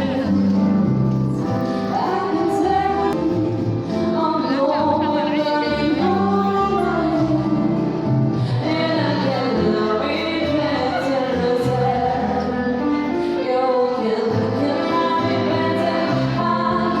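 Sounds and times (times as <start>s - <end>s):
background music with singing: 0.0s - 17.0s.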